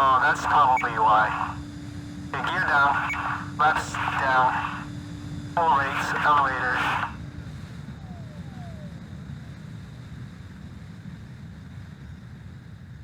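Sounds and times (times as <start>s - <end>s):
electric jet whine: 0.0s - 10.6s.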